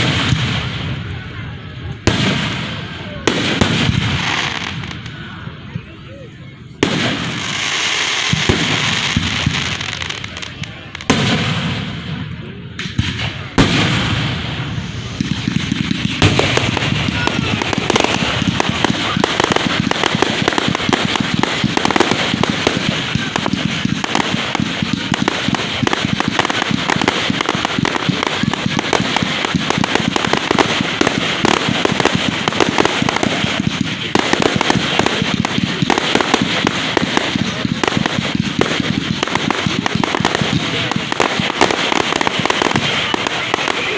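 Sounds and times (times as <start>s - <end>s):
fireworks bangs and crackling: 0.0s - 43.9s.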